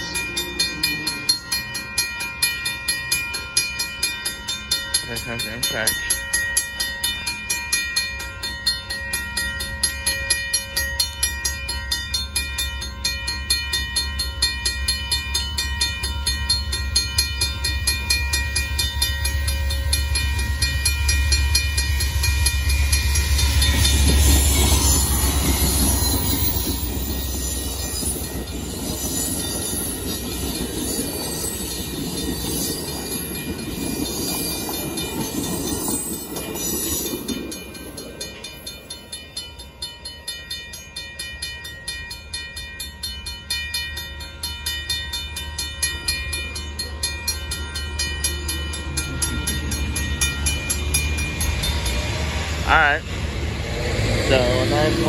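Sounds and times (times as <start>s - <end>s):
railroad crossing bells ringing: 0.0s - 55.0s
train rumble: 0.0s - 55.0s
wheel-on-rail noise: 5.9s - 55.0s.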